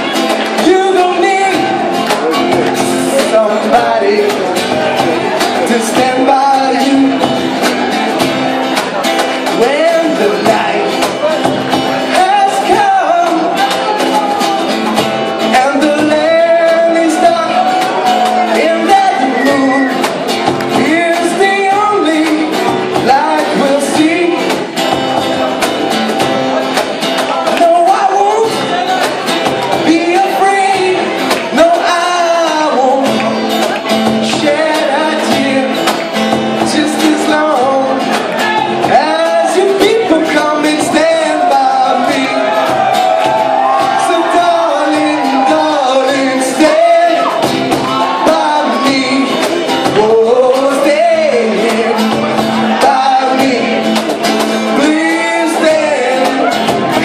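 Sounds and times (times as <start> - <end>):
live band playing: 0.0 - 57.0
person singing: 0.0 - 57.0.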